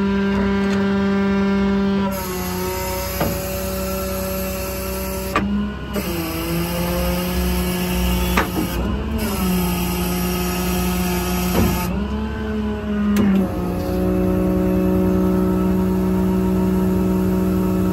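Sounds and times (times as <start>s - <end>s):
diesel engine and hydraulics humming: 0.0s - 17.9s.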